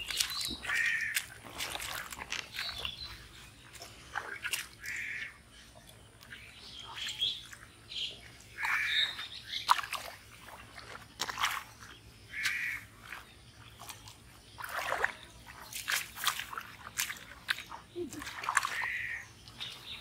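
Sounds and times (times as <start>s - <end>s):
feet splashing through muddy water: 0.0s - 20.0s.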